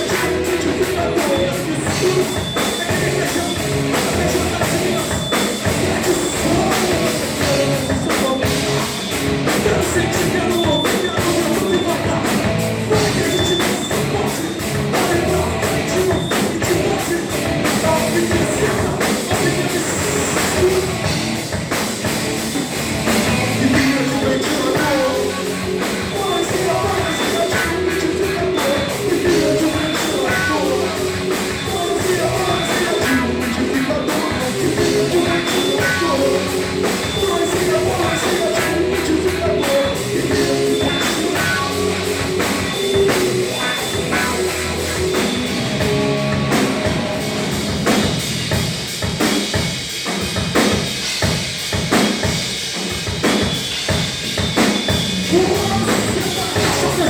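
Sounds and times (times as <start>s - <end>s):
punk band playing live: 0.0s - 57.0s.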